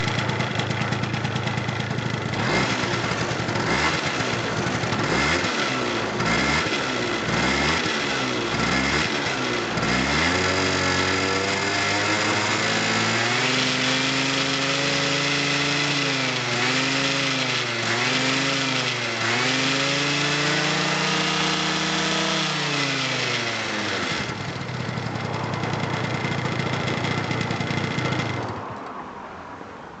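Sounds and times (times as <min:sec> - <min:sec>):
scooter engine revving: 0:00.0 - 0:28.8.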